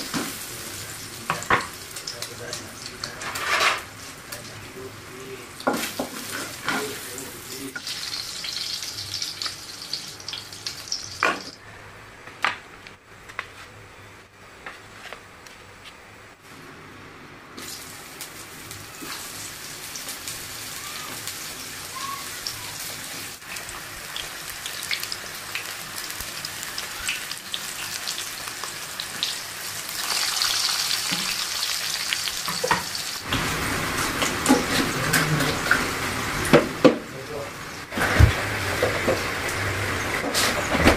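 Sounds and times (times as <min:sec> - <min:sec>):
oil sizzling in a frying pan: 0:00.0 - 0:11.6, 0:17.6 - 0:40.7.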